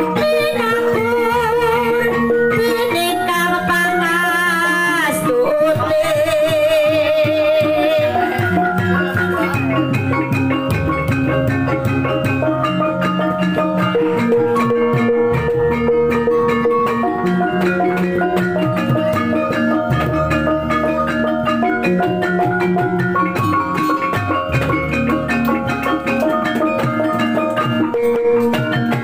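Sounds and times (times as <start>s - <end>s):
hand drum strokes: 0.0s - 29.0s
wavering held melody: 0.0s - 29.0s.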